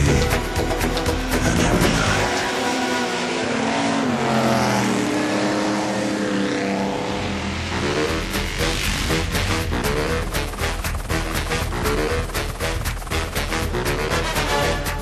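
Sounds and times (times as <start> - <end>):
background music: 0.0 - 4.3, 5.4 - 15.0
racing car engine revving: 0.0 - 14.9.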